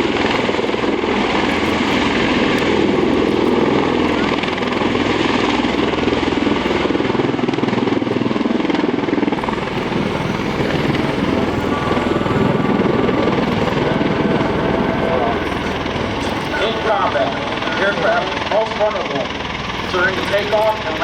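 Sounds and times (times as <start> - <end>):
tilt-rotor aircraft rotor din: 0.0 - 21.0.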